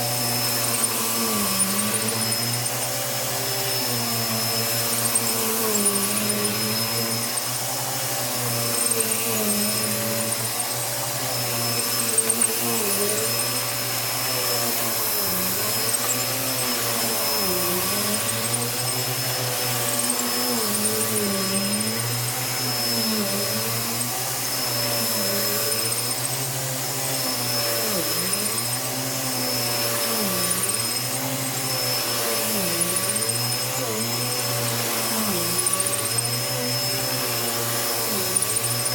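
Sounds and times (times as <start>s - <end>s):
vacuum cleaner running on rug: 0.0s - 38.9s.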